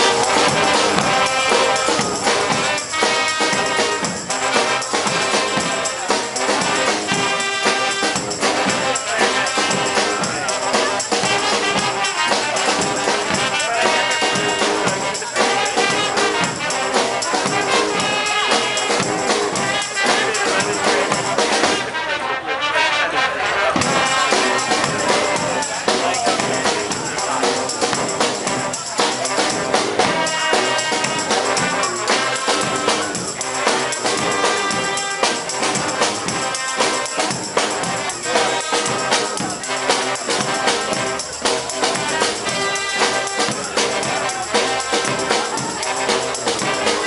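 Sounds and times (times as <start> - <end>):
brass band playing: 0.0 - 47.0.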